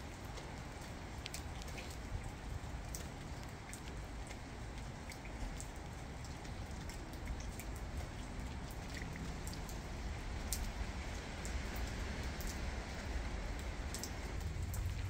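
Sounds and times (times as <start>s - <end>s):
rain falling steadily: 0.0s - 15.0s
raindrops ticking close by: 0.0s - 15.0s.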